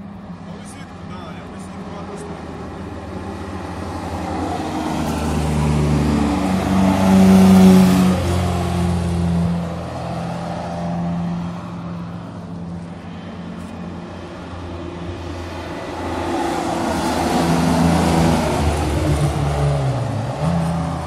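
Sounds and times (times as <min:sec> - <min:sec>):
race car engine driving past: 0:00.4 - 0:21.0.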